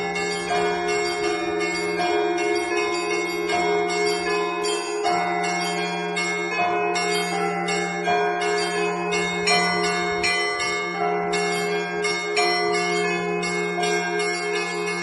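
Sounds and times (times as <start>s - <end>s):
low bell humming: 0.0s - 15.0s
small high bells struck rhythmically: 0.0s - 15.0s.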